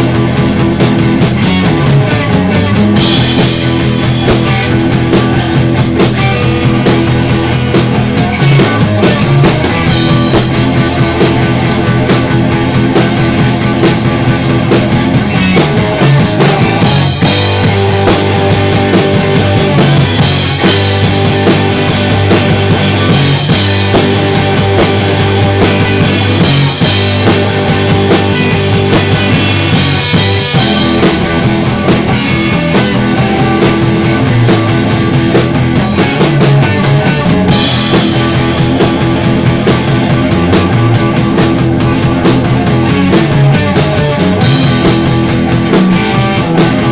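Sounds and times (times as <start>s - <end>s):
drum kit: 0.0s - 46.9s
electric guitar: 0.0s - 46.9s
rock band playing: 0.0s - 46.9s.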